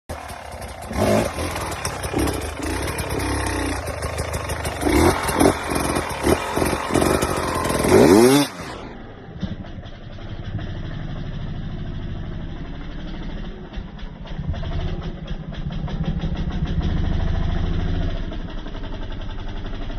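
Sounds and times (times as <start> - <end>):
dirt bike engine revving and idling: 0.1 - 19.9.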